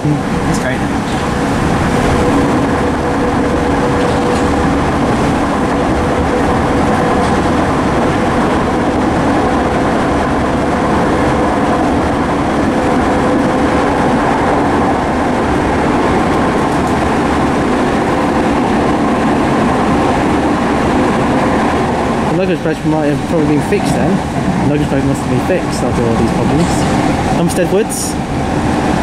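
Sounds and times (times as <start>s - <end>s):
steady train whine: 0.0s - 29.0s
wheels rumbling on track: 0.0s - 29.0s.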